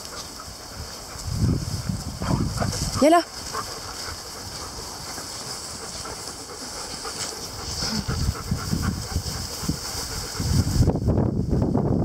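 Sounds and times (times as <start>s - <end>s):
puppies scrambling through grass: 0.0s - 11.2s
steady high hiss: 0.0s - 12.0s.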